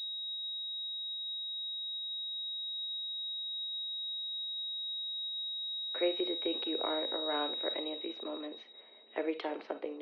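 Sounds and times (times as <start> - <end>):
high-pitched electronic sine tone: 0.0 - 10.0.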